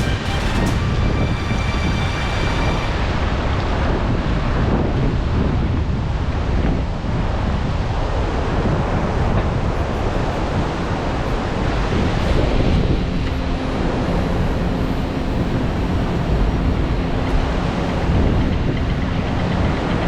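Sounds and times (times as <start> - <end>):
heavy surf: 0.0 - 20.0
wind gusting across microphone: 0.0 - 20.0.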